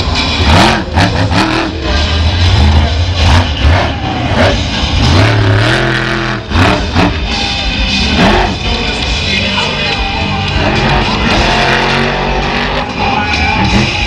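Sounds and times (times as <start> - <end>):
loud music: 0.0 - 14.0
truck engine revving: 0.0 - 14.0.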